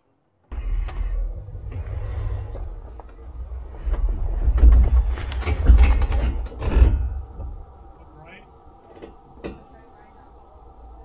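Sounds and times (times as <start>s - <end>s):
low rumble of truck body: 0.5s - 9.9s.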